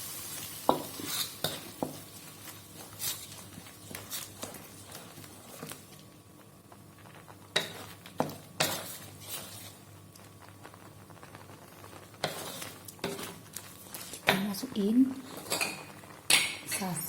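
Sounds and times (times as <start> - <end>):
spatula stirring sauce in pan: 0.0 - 5.9, 7.1 - 14.6, 15.2 - 16.6.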